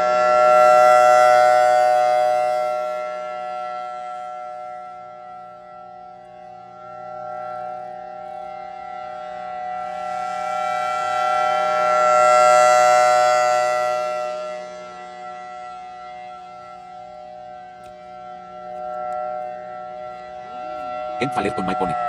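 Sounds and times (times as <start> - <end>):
rotating siren steady tone: 0.0 - 22.0.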